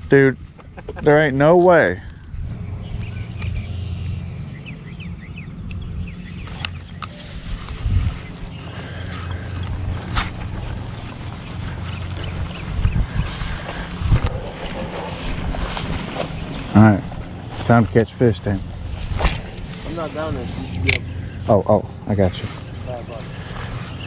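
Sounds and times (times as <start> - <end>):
insect singing high note: 0.0 - 23.1
low rumble: 2.0 - 24.0.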